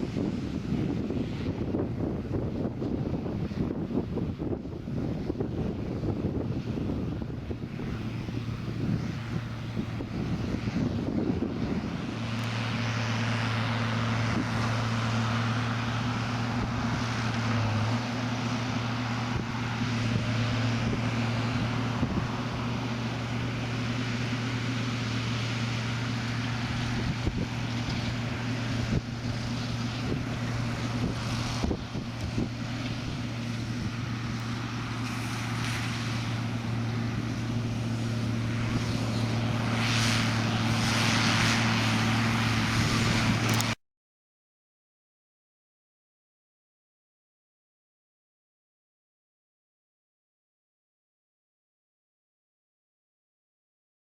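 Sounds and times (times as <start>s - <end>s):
tractor engine running: 0.0s - 43.8s.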